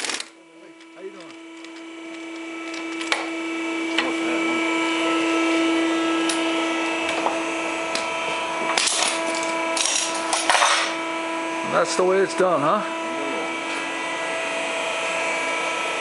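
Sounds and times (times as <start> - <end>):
hydraulic press motor humming: 0.0 - 16.0.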